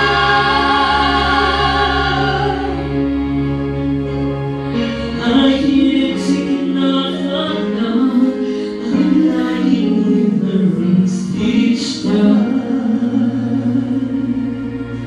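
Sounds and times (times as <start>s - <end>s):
vocal trio singing in harmony: 0.0s - 3.9s, 4.7s - 15.0s.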